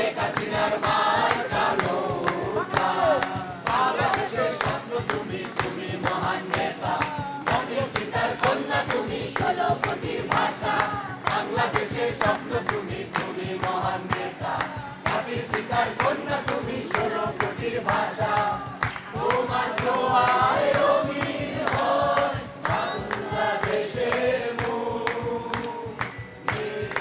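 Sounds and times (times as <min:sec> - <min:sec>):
group singing in chorus: 0:00.0 - 0:27.0
hands clapping along: 0:00.0 - 0:27.0.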